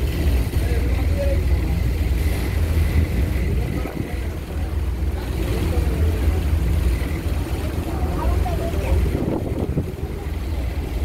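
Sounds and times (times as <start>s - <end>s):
ferry engine rumble: 0.0s - 11.0s
wind buffeting microphone: 1.7s - 11.0s.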